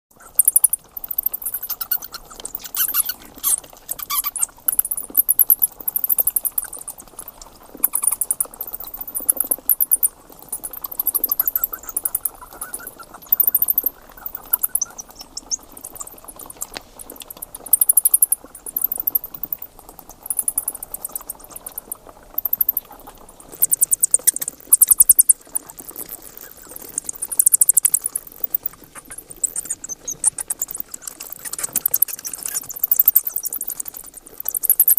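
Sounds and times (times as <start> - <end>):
bats chittering: 0.2 - 34.9.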